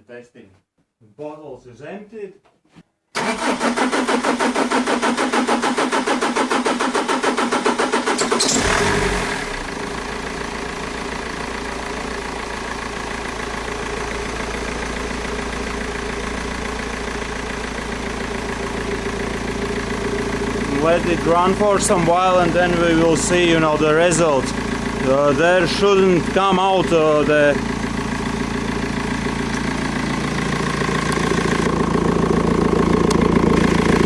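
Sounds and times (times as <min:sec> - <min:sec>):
diesel engine cranking: 0:03.2 - 0:34.0
diesel engine idling: 0:05.7 - 0:34.0.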